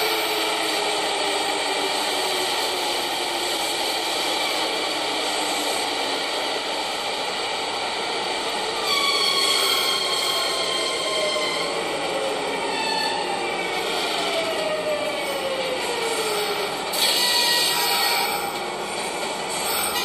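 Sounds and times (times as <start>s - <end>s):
train rumble and hiss: 0.0s - 20.0s.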